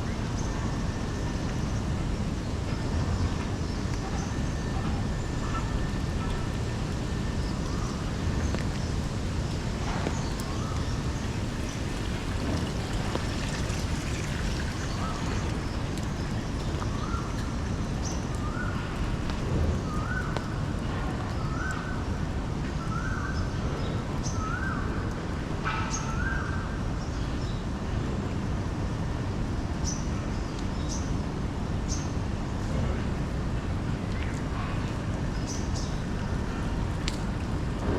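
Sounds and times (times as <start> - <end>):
city hiss and rumble: 0.0 - 37.9.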